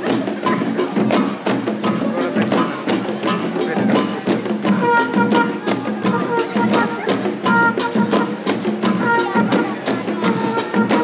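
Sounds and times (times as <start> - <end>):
drums beating: 0.0 - 11.0.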